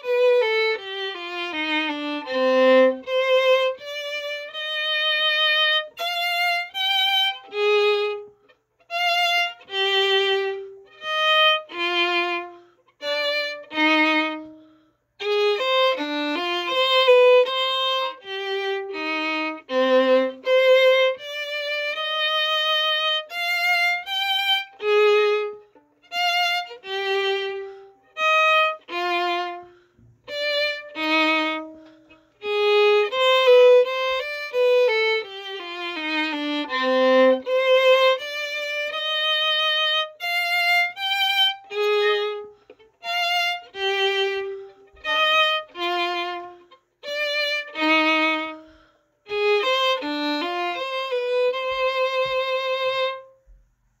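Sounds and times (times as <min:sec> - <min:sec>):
solo violin: 0:00.0 - 0:53.8.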